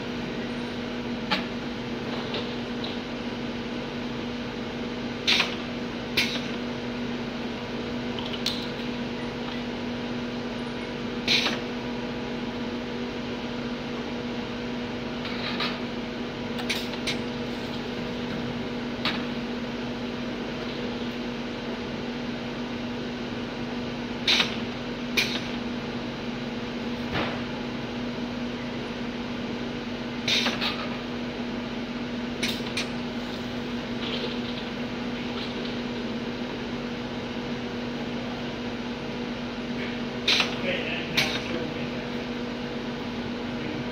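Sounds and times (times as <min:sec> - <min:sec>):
bottling machine humming: 0:00.0 - 0:43.9.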